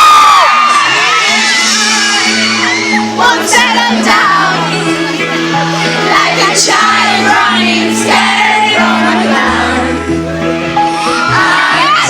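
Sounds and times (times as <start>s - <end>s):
crowd shouting and whooping: 0.0s - 12.0s
voices singing: 1.3s - 12.0s.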